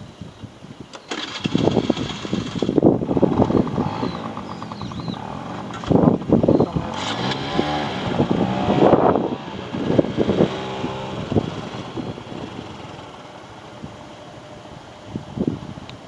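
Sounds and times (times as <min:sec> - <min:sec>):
vehicle engine passing by: 0:02.6 - 0:15.8.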